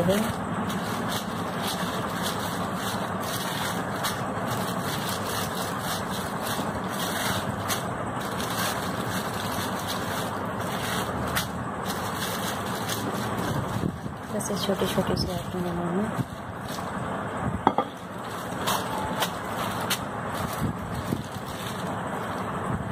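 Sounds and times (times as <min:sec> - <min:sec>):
plastic sheet crinkling: 0:00.0 - 0:17.2, 0:18.0 - 0:22.8
background hum and hiss: 0:00.0 - 0:22.9.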